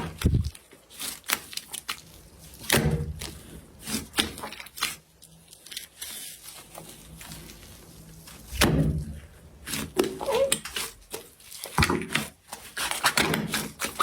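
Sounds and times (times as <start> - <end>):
slime crackling and popping: 0.0 - 14.0
slime squishing by hand: 0.0 - 14.0.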